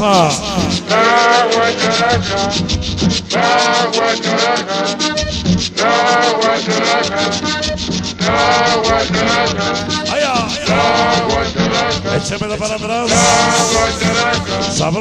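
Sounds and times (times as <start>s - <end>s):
scraper rhythm: 0.0s - 15.0s.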